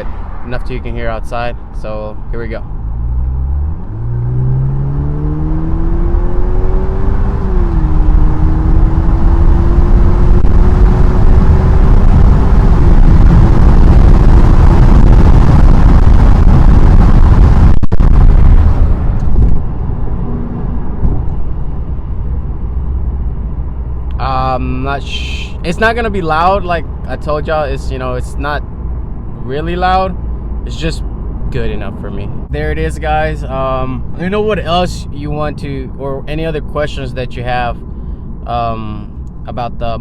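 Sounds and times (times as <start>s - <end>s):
car engine accelerating: 2.6s - 37.1s.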